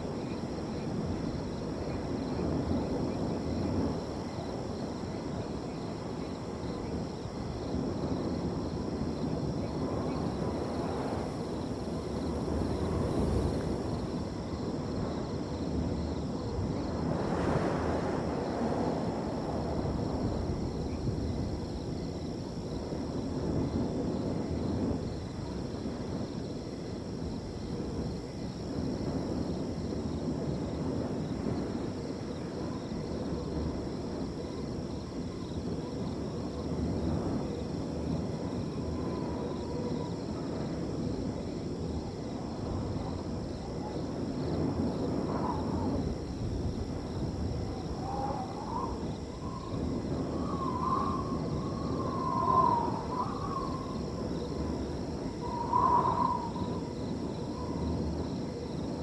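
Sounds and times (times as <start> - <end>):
crickets trilling: 0.0 - 59.0
wind blowing through a field: 0.0 - 59.0.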